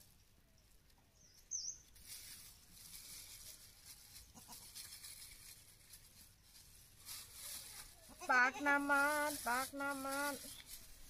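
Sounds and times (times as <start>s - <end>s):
plastic bag rustling: 1.8s - 11.0s.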